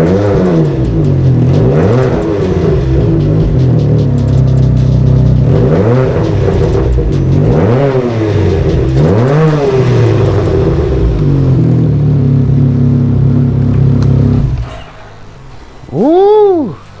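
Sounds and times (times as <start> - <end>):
engine revving and idling: 0.0 - 16.2.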